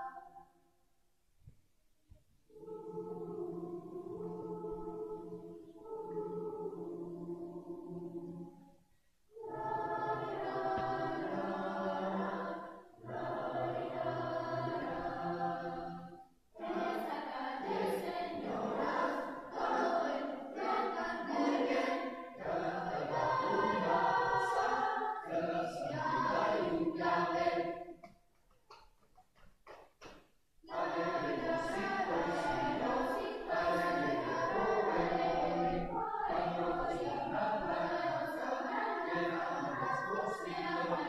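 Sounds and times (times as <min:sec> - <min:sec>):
choir singing: 0:00.0 - 0:00.4, 0:02.5 - 0:28.1, 0:30.7 - 0:41.0.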